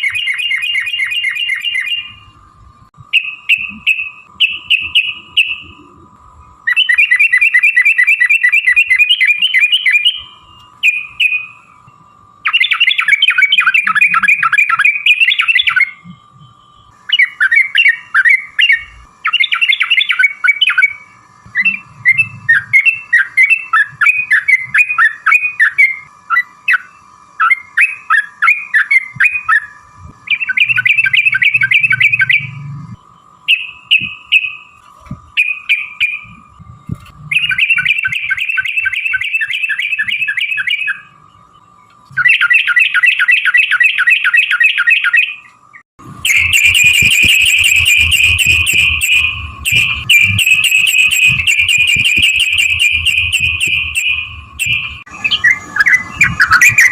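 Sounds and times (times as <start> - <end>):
bird singing trilled song: 0.0 - 2.2, 3.1 - 5.8, 6.6 - 32.6, 33.5 - 34.7, 35.4 - 36.4, 37.3 - 56.9
faint steady tone: 0.0 - 56.9.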